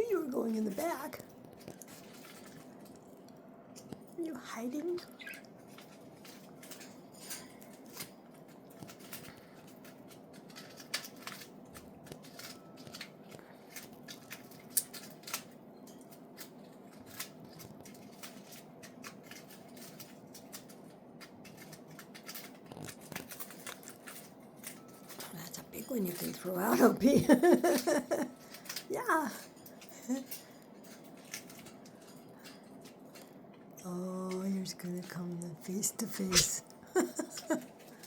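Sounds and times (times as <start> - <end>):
budgies nibbling and clicking: 0.0 - 38.0
faint room hum: 0.0 - 38.0.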